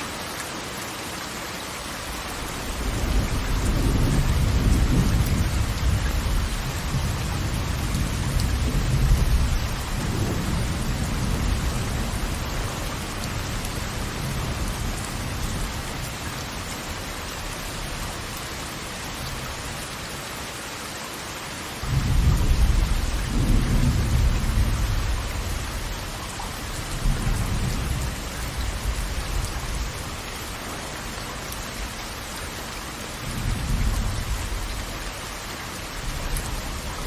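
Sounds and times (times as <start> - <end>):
rushing hiss of falling water: 0.0 - 37.0.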